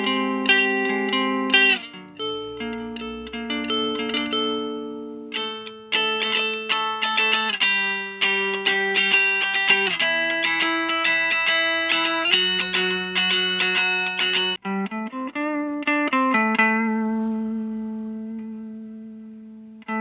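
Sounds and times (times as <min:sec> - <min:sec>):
clean electric guitar chords: 0:00.0 - 0:20.0.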